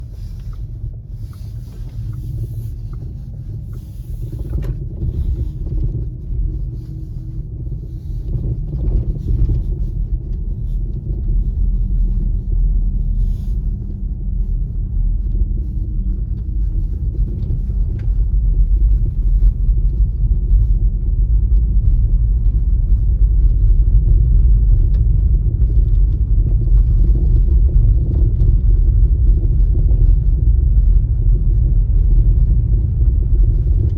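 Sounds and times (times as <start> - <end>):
road and tyre rumble: 0.0 - 33.9.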